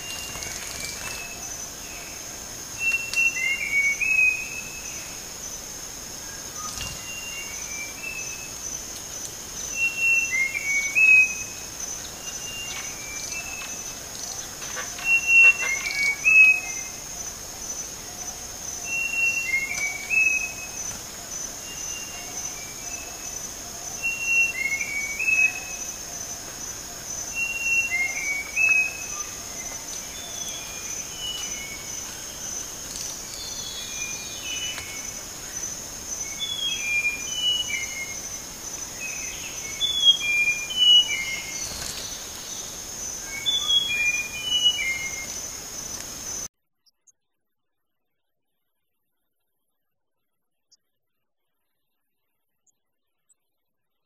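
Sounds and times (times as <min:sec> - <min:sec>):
high-pitched insect drone: 0:00.0 - 0:46.5.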